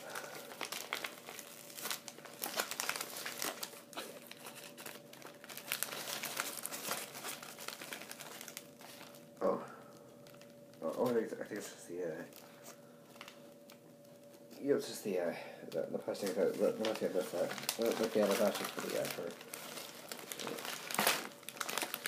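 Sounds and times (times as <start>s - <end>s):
plastic mailer bag crinkling: 0.0s - 9.6s, 10.2s - 15.0s, 15.8s - 22.0s.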